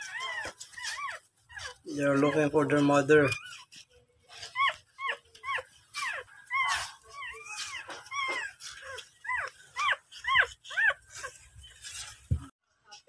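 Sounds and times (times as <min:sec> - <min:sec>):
puppies squealing: 0:00.0 - 0:12.4.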